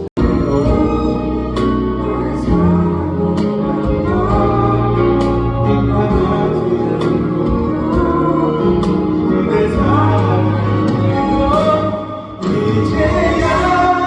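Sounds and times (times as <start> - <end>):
instrumental accompaniment: 0.0 - 14.0
person singing: 0.0 - 14.0.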